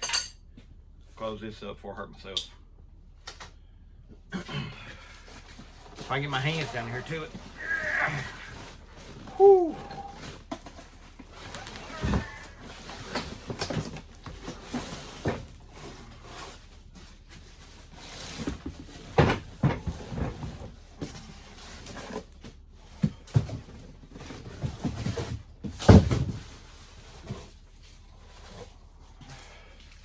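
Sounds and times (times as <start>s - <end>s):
cardboard and foam rustling: 5.1s - 30.0s.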